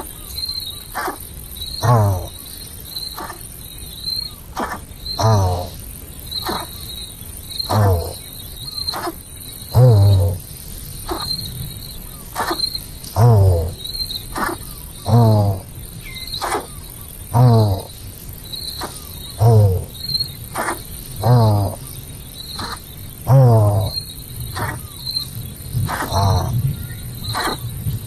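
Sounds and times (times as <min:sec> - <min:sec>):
animal calling: 0:00.0 - 0:02.5, 0:03.1 - 0:03.6, 0:04.2 - 0:05.8, 0:06.4 - 0:06.9, 0:07.6 - 0:10.4, 0:11.0 - 0:18.0, 0:18.6 - 0:27.7
insects chirping: 0:00.0 - 0:28.0.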